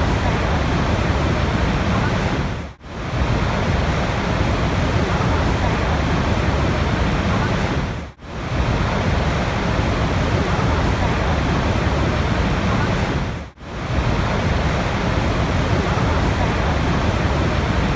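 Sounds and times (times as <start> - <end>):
rushing water: 0.0 - 17.9.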